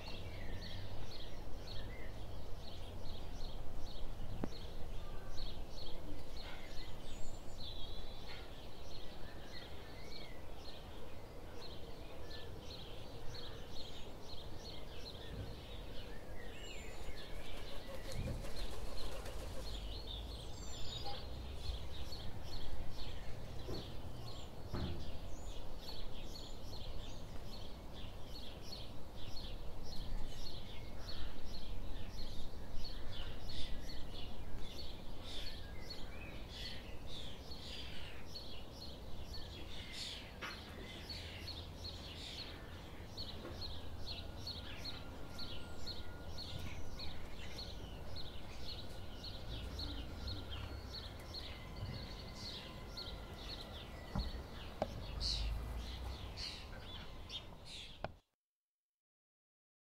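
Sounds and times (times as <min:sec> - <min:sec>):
birds chirping and singing: 0:00.0 - 0:58.1.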